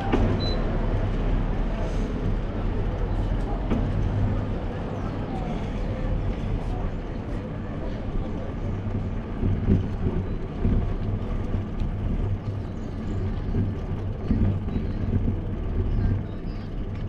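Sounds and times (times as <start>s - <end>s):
wind buffeting microphone: 0.1s - 17.0s
bicycle tyre noise on pavement: 0.8s - 17.0s.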